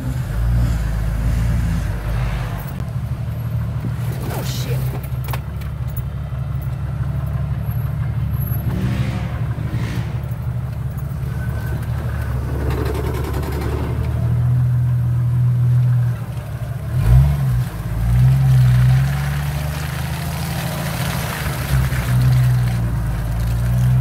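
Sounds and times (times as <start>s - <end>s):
car engine running at low speed: 0.0s - 24.0s.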